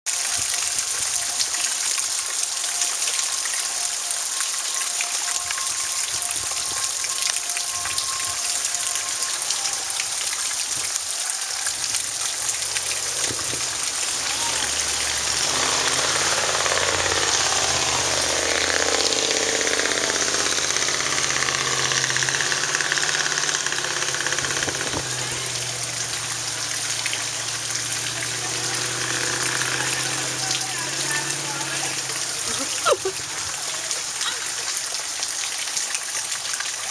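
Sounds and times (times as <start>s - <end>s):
wavering gushing sound: 0.1s - 36.5s
hail and rain pelting: 0.1s - 36.9s.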